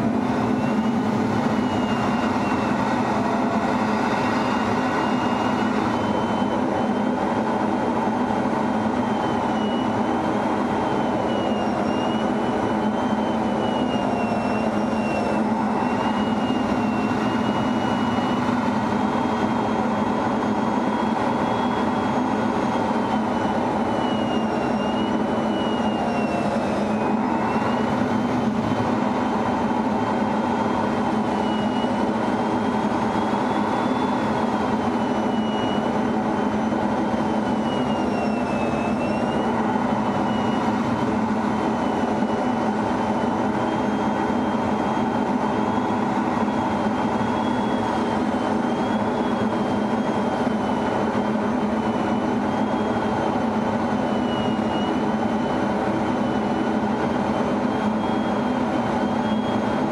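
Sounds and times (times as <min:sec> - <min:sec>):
jet engine and airflow noise: 0:00.0 - 0:59.9.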